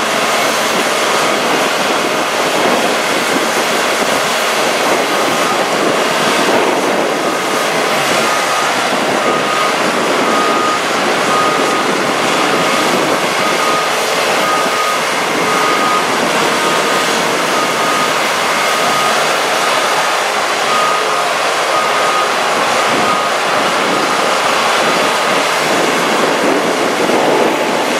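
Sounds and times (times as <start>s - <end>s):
heavy machinery running: 0.0s - 27.9s
reversing alarm beeping: 0.0s - 27.9s.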